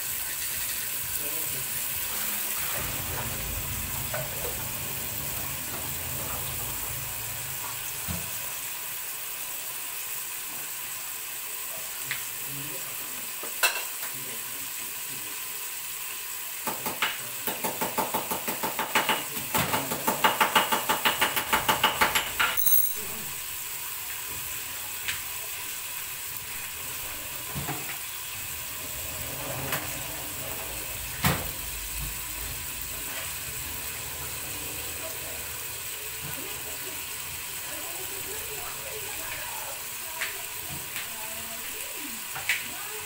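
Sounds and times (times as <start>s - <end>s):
meat sizzling in hot oil: 0.0s - 43.0s.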